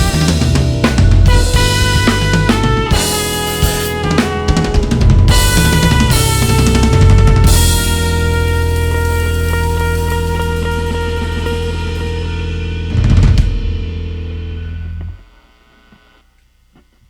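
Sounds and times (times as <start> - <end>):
ringing cymbals and drums: 0.0 - 14.1
band holding final chord: 0.0 - 15.2.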